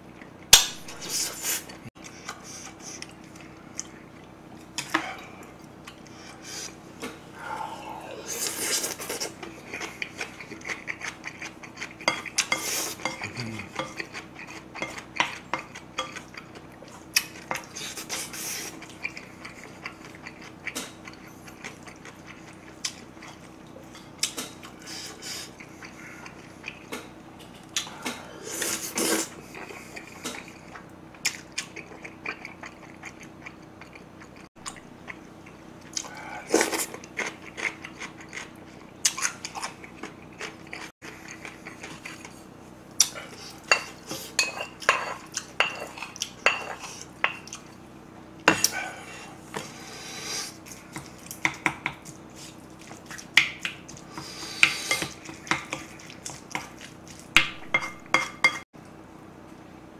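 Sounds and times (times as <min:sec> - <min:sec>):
faint steady hum: 0:00.0 - 0:59.9
chewing and smacking: 0:02.0 - 0:06.2, 0:08.4 - 0:24.8, 0:25.5 - 0:28.3, 0:29.4 - 0:47.8, 0:50.6 - 0:57.6.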